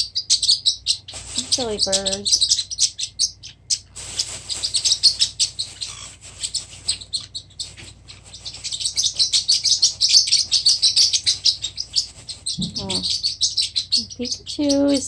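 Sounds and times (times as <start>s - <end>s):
parrotlets chirping: 0.0s - 15.0s.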